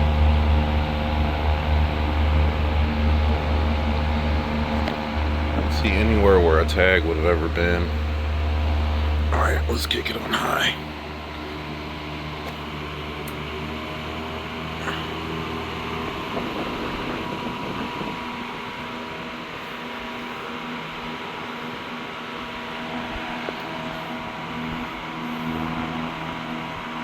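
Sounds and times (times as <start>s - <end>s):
air rushing off fan blades: 0.0s - 27.0s
electric fan motor humming: 0.0s - 27.0s.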